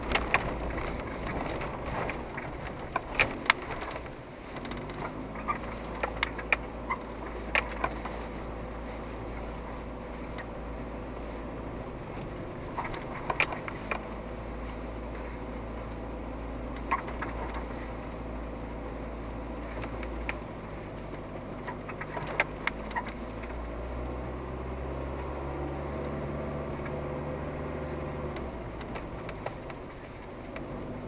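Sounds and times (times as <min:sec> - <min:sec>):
body and suspension knocks and rattles: 0:00.0 - 0:24.2, 0:24.8 - 0:31.0
engine running at low speed: 0:00.0 - 0:31.0.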